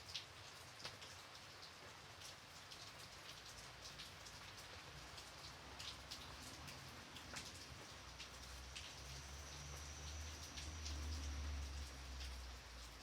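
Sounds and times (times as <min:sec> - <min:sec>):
gentle rain hiss: 0:00.0 - 0:13.0
raindrops tapping: 0:00.1 - 0:13.0.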